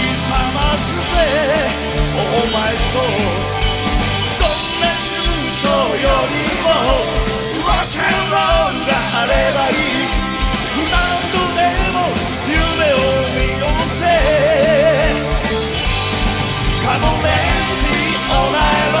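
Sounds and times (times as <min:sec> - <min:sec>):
bending electric guitar lead: 0:00.0 - 0:19.0
live rock band playing: 0:00.0 - 0:19.0.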